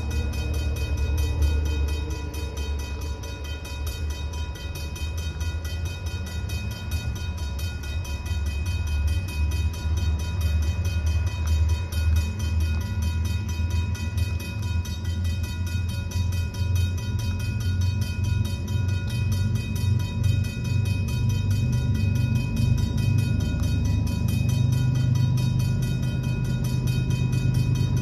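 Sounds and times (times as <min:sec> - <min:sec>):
crossing bell ringing: 0:00.0 - 0:28.0
freight train rumbling past: 0:00.0 - 0:28.0.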